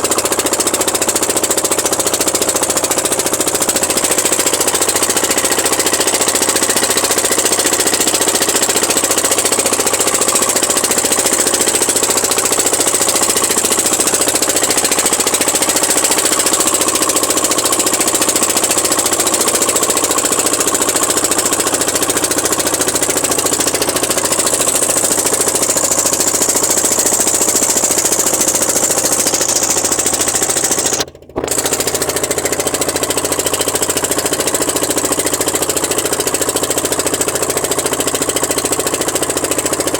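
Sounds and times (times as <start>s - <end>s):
boat engine knocking: 0.0s - 39.9s.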